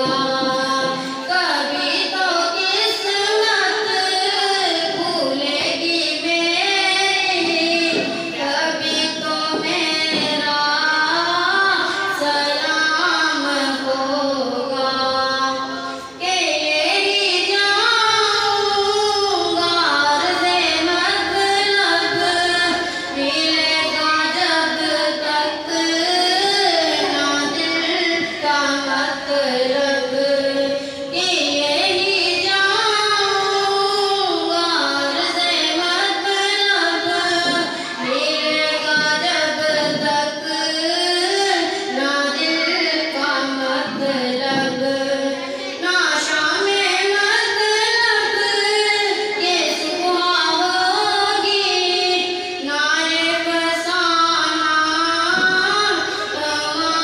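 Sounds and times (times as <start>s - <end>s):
boy singing into microphone: 0.0s - 57.0s.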